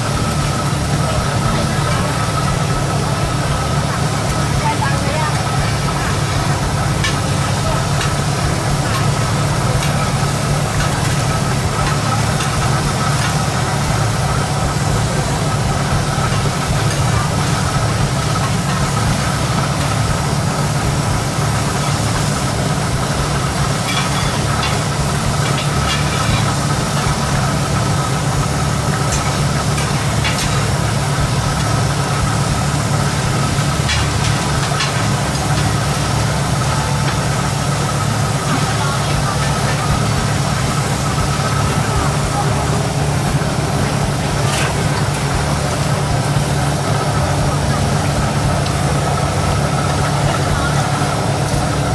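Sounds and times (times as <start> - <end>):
motor humming with high whine: 0.0 - 51.9.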